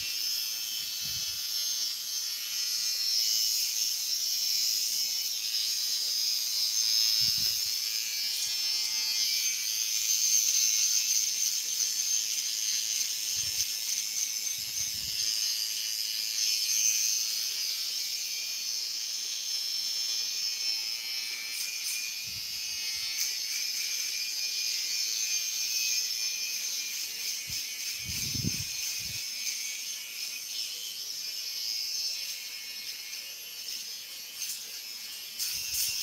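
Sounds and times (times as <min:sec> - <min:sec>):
electric hair clipper buzzing: 0:00.0 - 0:36.0.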